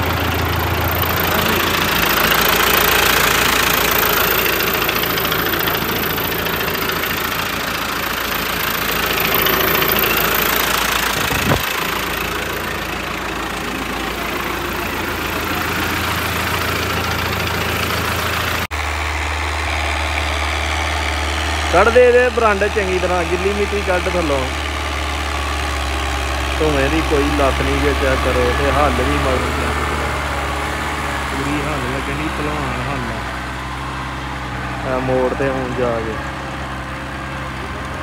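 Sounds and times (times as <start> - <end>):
diesel tractor engine idling: 0.0 - 38.0.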